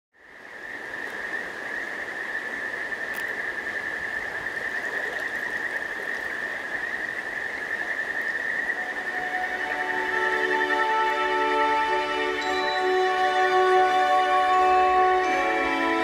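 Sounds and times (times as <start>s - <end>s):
soft hiss: 0.2s - 16.0s.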